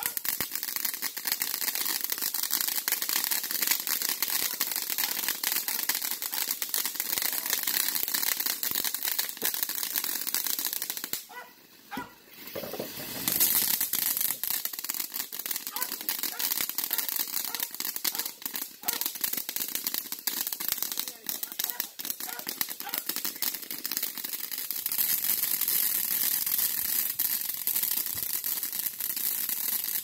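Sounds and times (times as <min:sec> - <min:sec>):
fountain fireworks hissing and crackling: 0:00.0 - 0:30.0.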